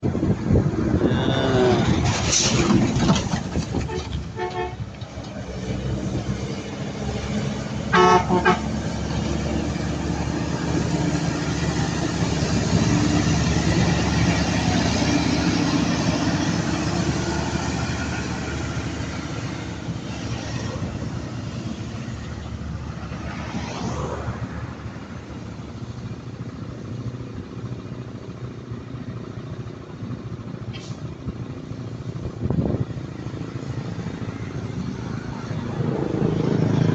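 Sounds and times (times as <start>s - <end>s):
diesel truck engine running: 0.0s - 36.9s.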